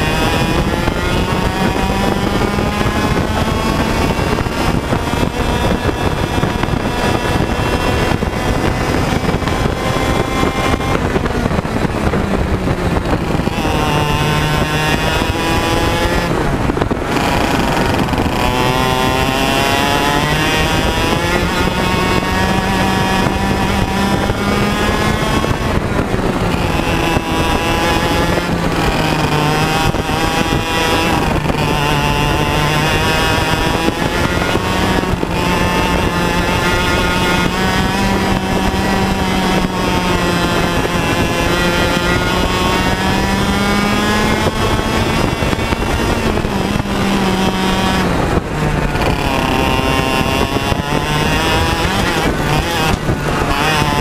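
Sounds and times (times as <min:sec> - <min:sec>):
kart engine at racing speed: 0:00.0 - 0:54.0.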